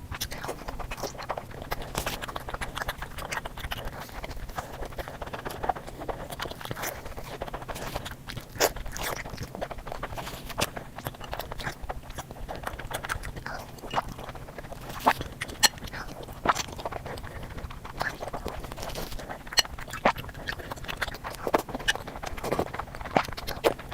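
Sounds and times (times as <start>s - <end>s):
chewing and biting sweets: 0.0s - 23.9s.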